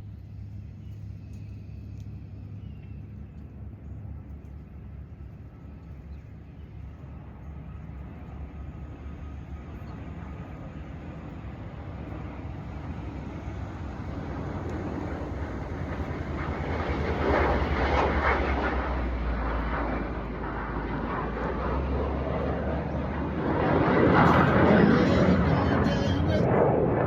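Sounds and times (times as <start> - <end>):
airplane droning overhead: 0.0 - 27.0.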